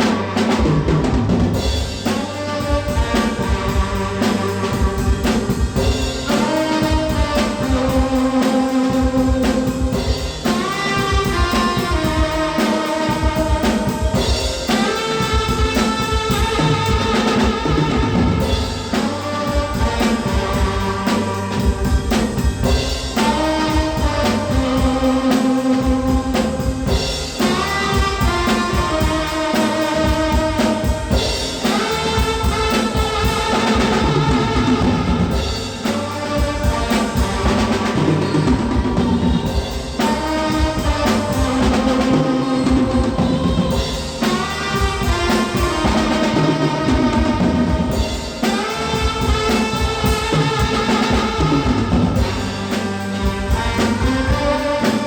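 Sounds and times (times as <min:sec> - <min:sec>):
drum kit steady beat: 0:00.0 - 0:55.0
tenor saxophone melody: 0:00.0 - 0:55.0.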